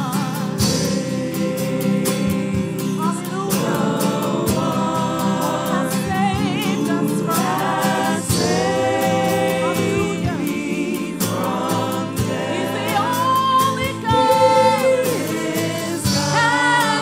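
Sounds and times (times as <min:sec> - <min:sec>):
acoustic guitar: 0:00.0 - 0:17.0
woman singing gospel song: 0:00.0 - 0:17.0.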